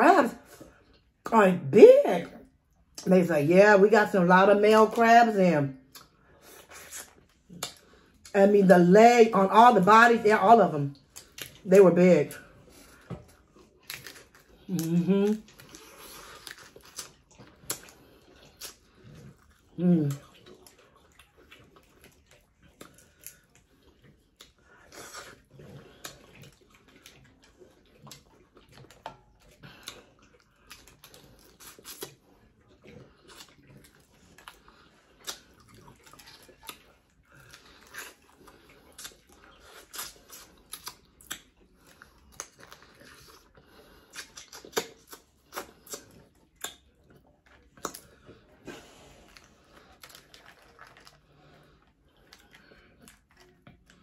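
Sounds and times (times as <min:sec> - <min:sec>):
chewing: 0:00.4 - 0:01.2, 0:05.8 - 0:08.4, 0:10.9 - 0:54.0.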